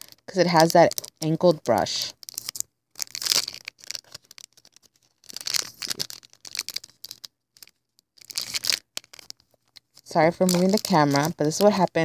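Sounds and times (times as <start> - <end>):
crinkling plastic and foil wrapping: 0.0 - 12.0.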